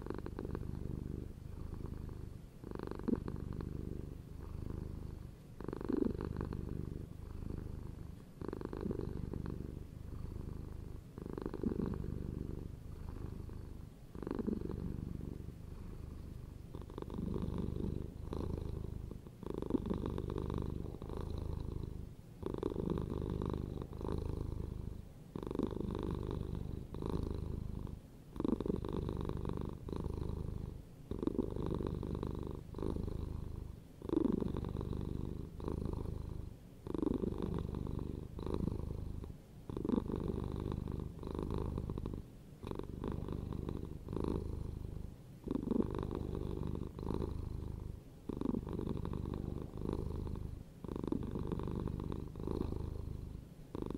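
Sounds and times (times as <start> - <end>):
cat purring: 0.0 - 53.9.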